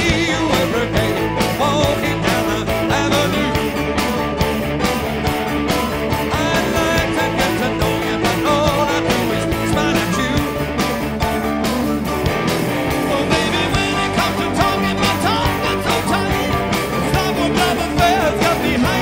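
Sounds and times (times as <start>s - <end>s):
drums with steady beat: 0.0s - 19.0s
electric guitars: 0.0s - 19.0s.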